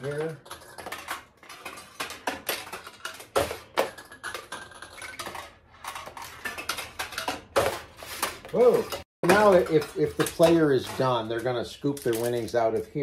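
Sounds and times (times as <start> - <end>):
pachinko balls clicking and clattering: 0.0 - 7.7, 8.5 - 12.6.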